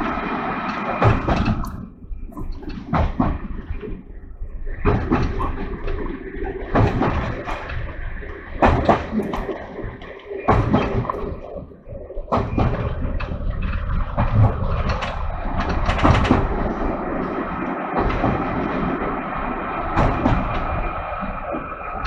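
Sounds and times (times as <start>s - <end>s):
train rumble and engine drone: 0.0s - 22.0s
sharp knocks and rattles: 0.7s - 4.1s, 4.7s - 22.0s.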